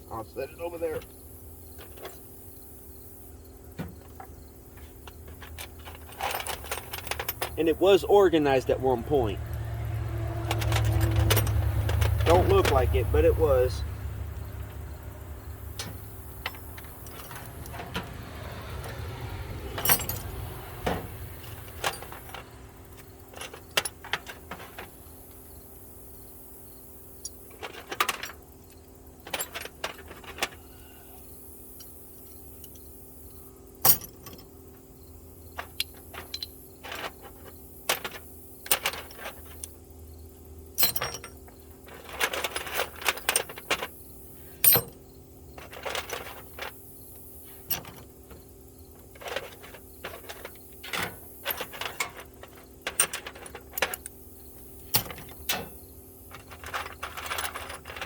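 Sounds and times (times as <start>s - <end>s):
metal tools clinking: 4.0s - 15.0s, 15.6s - 25.4s, 27.2s - 30.9s, 33.8s - 34.5s, 35.5s - 39.8s, 40.7s - 58.0s.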